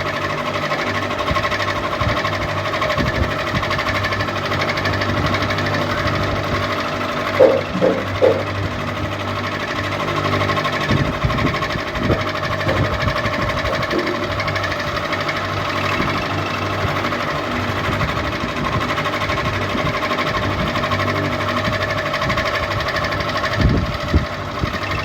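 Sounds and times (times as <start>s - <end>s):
ceiling fan humming and rattling: 0.0s - 25.0s.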